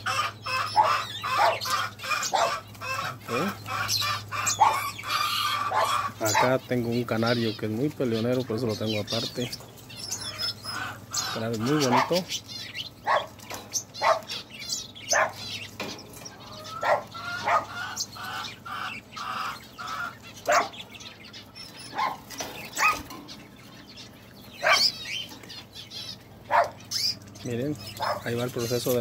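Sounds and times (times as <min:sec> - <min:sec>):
evenly spaced bird notes: 0:00.0 - 0:29.0
small birds chirping: 0:00.0 - 0:29.0.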